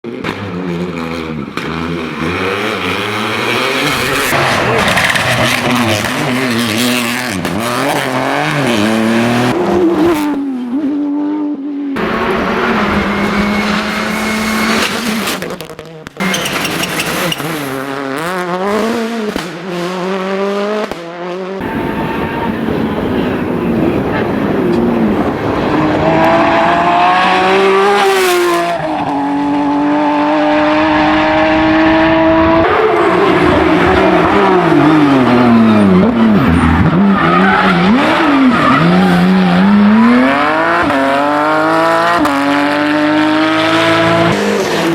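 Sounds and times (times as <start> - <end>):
cars passing: 0.0 - 44.9
rally car engines revving: 0.0 - 44.9.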